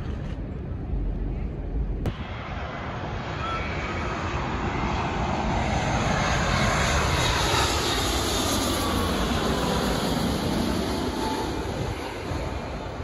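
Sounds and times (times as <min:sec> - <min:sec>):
jet airliner passing overhead: 0:00.8 - 0:13.0
high jet whine: 0:02.0 - 0:13.0.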